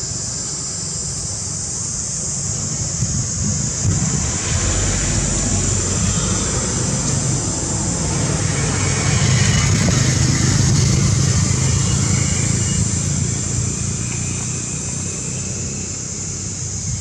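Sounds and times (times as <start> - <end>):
vehicle engine noise: 0.3 - 17.0.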